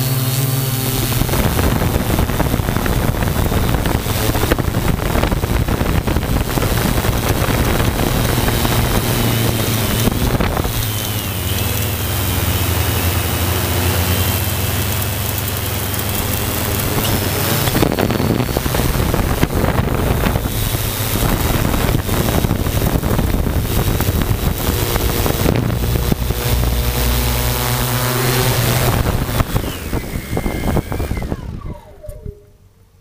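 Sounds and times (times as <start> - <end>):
wind noise on microphone: 0.0 - 32.5
drone propellers buzzing: 0.0 - 32.9.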